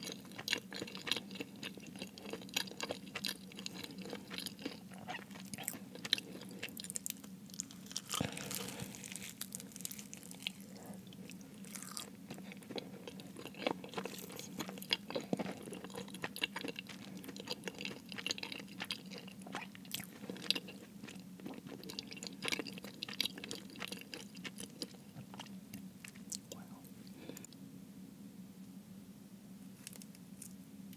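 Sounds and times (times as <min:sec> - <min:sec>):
chewing with wet mouth sounds: 0:00.0 - 0:09.2, 0:09.8 - 0:27.5
crisp pastry crackles: 0:00.0 - 0:25.0.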